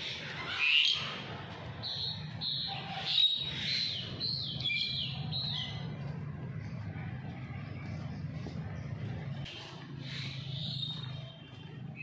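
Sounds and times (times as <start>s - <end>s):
birds calling: 0.0s - 6.8s, 8.6s - 12.0s.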